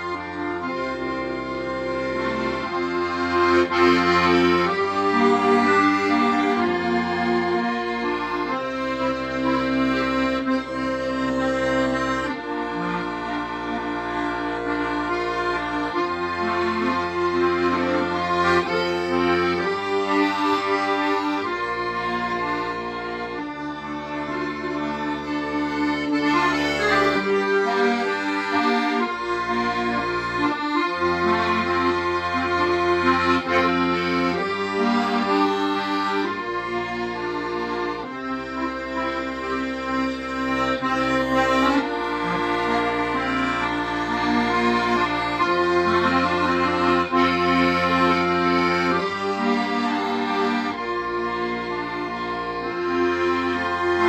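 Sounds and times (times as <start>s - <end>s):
accordion playing slow melody: 0.0s - 54.0s.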